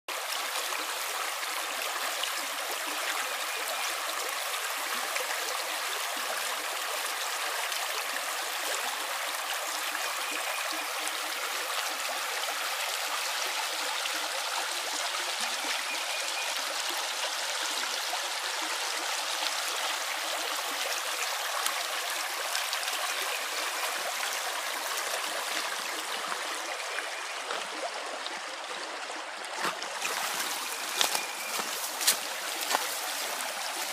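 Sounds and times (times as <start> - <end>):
water rushing and trickling: 0.1 - 33.9.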